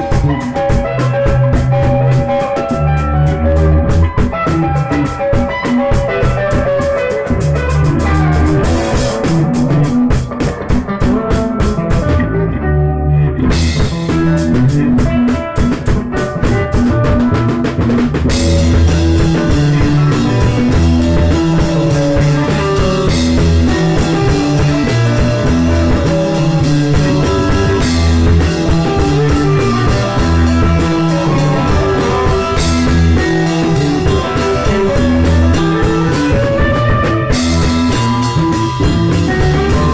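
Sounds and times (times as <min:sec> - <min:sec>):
rock music with drums and guitar: 0:00.0 - 0:39.9.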